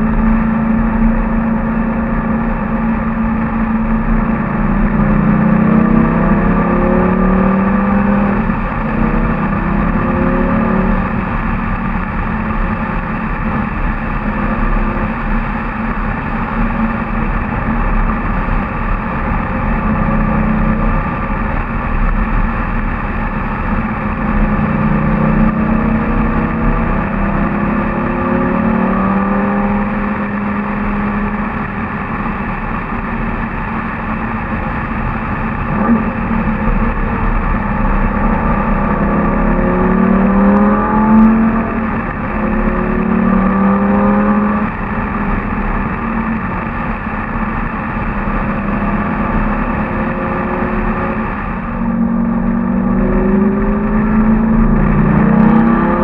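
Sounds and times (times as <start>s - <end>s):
sports car engine driving: 0.0s - 56.0s.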